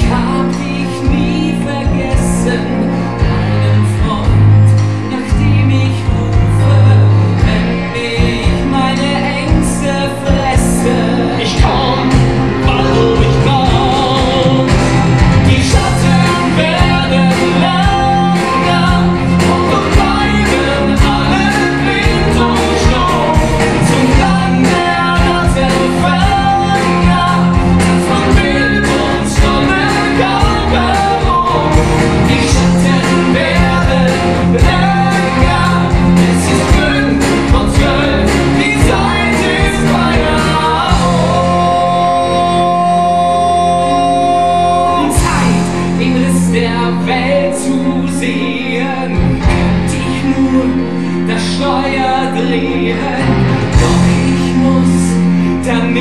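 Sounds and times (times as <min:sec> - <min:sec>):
band and orchestra accompaniment: 0:00.0 - 0:56.0
two men singing a duet: 0:00.0 - 0:56.0.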